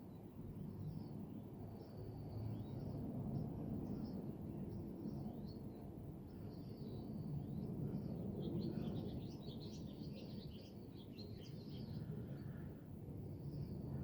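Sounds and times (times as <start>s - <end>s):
small birds chirping: 0.8s - 12.6s.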